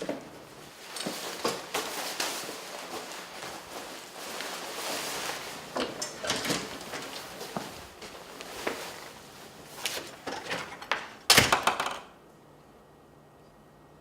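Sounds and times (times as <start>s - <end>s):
rustling and shuffling: 0.0s - 11.2s.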